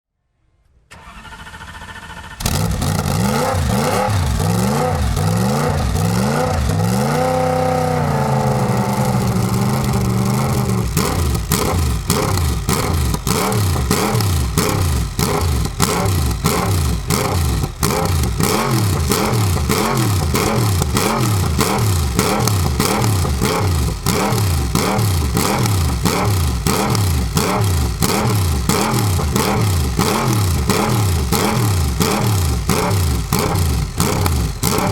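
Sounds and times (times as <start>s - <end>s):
exhaust cracks: 2.3s - 34.9s
racing car engine revving: 2.4s - 34.9s.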